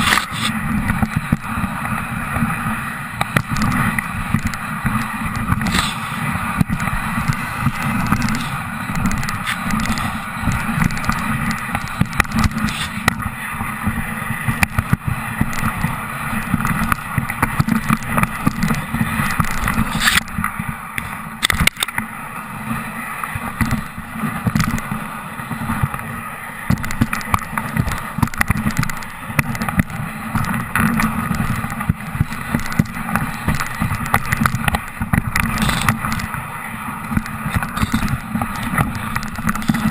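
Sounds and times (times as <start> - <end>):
low jolting rumble of sled: 0.0 - 39.9
sled runners scraping snow: 0.0 - 39.9.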